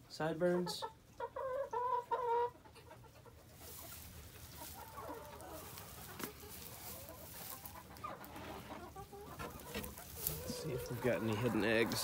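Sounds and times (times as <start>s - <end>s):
chickens clucking: 0.1s - 12.0s.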